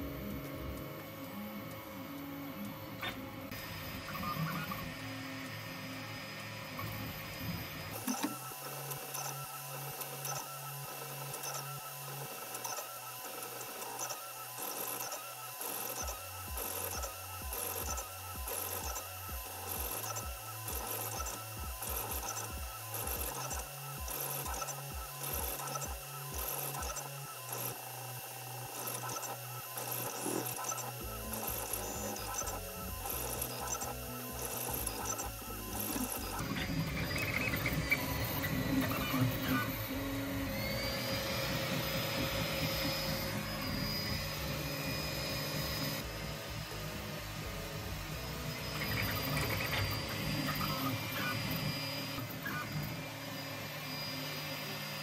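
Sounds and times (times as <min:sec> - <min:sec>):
printer stepper motors humming: 0:00.0 - 0:55.0.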